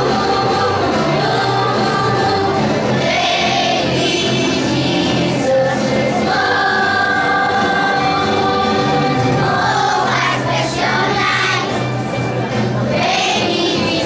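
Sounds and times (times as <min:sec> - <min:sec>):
children's choir singing: 0:00.0 - 0:14.0
instrumental accompaniment: 0:00.0 - 0:14.0.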